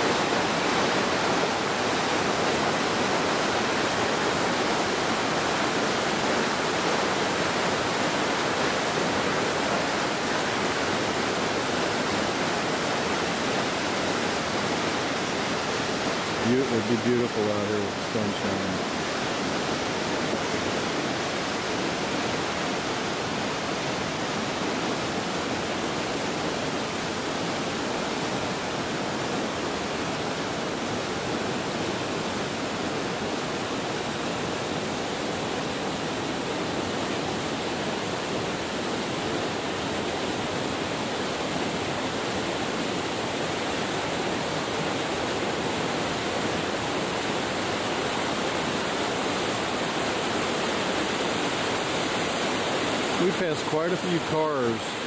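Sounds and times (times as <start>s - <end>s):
fast-flowing river rushing: 0.0s - 55.0s.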